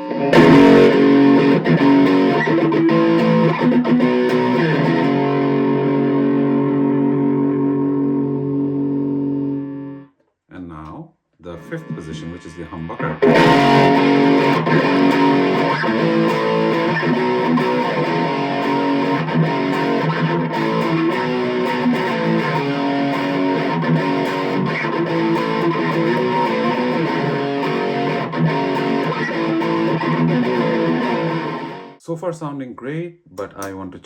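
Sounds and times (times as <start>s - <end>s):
distorted electric guitar riff: 0.0s - 10.1s, 11.4s - 32.0s.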